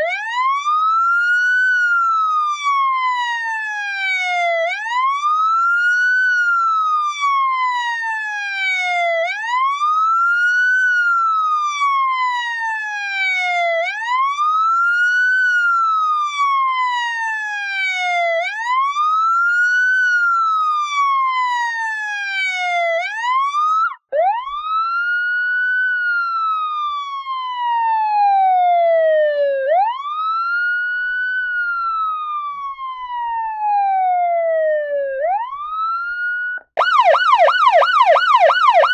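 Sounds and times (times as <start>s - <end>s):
police siren wailing: 0.0s - 38.9s.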